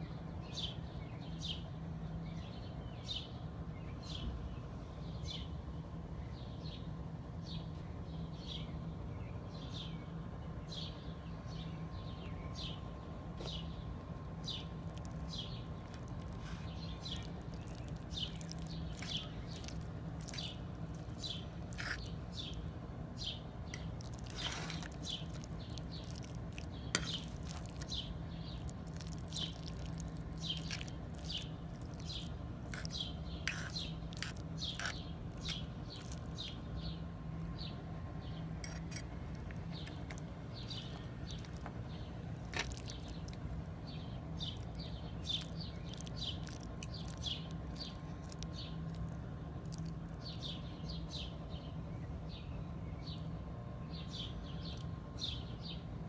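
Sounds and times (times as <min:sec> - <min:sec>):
small birds chirping: 0:00.0 - 0:56.0
steady low hum: 0:00.0 - 0:56.0.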